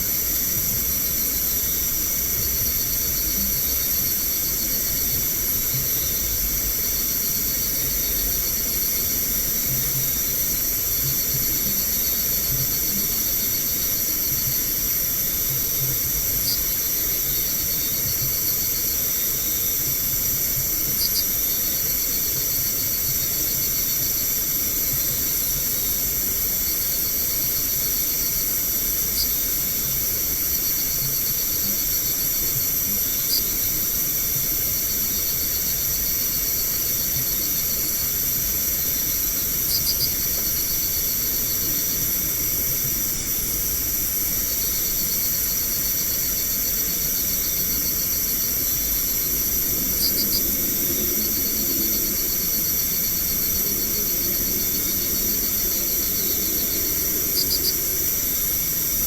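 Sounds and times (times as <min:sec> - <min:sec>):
constant hiss: 0:00.0 - 0:59.0
crickets trilling: 0:00.0 - 0:59.0.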